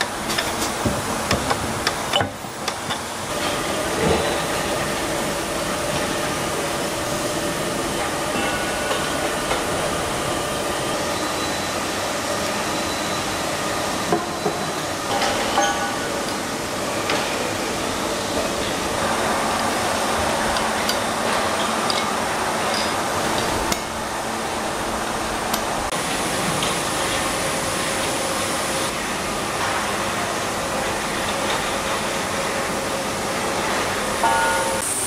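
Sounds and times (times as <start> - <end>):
steady machinery noise: 0.0 - 35.0.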